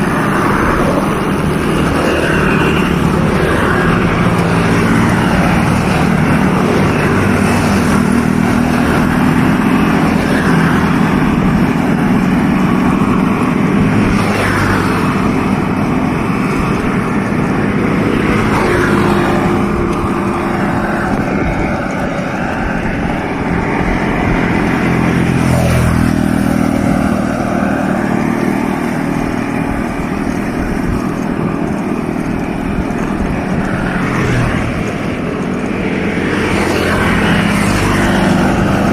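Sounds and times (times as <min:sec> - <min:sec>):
vehicle engines running: 0:00.0 - 0:38.9
vehicles passing: 0:00.0 - 0:38.9.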